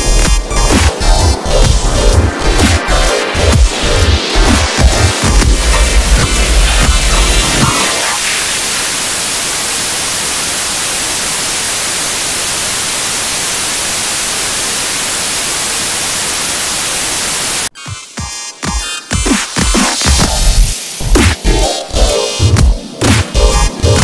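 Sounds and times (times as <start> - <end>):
loud static hiss: 0.0 - 17.8, 19.5 - 24.0
electronic music: 0.0 - 24.0.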